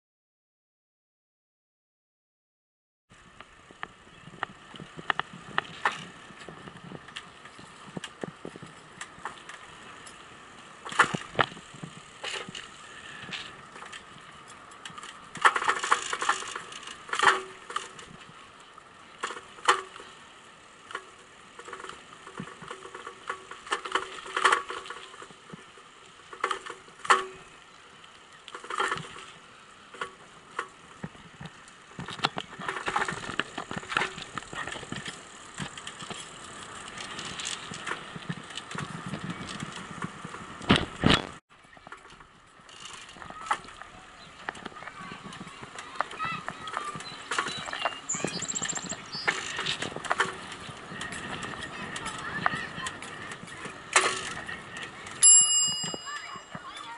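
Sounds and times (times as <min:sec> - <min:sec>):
bicycle rattling over rough asphalt: 0:03.1 - 0:56.9.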